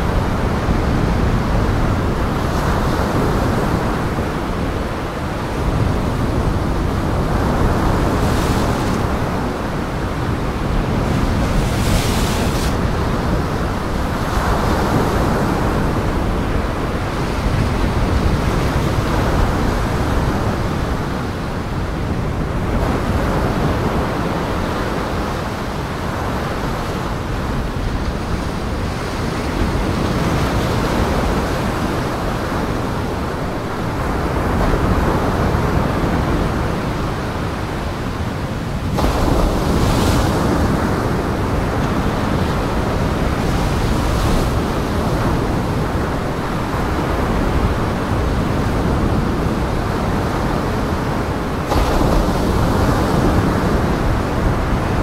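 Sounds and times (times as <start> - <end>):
surf crashing against rocks: 0.0 - 55.0
wind buffeting microphone: 0.0 - 55.0.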